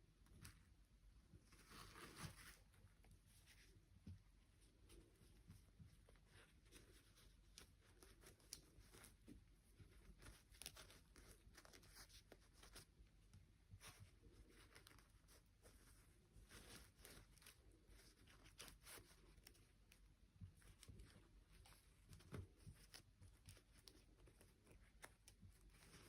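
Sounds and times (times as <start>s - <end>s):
faint handling rustles and clicks: 0.1s - 26.0s.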